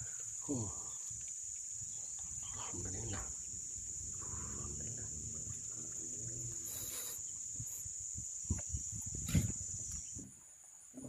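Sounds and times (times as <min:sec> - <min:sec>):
high-pitched insect drone: 0:00.0 - 0:10.4.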